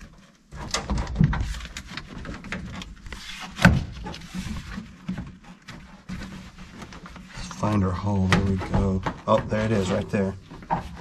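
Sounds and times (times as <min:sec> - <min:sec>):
trim panel rustling and scraping: 0:00.0 - 0:11.0.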